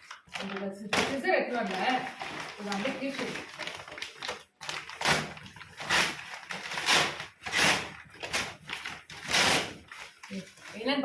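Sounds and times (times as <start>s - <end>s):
plastic package tearing: 0.0s - 10.9s.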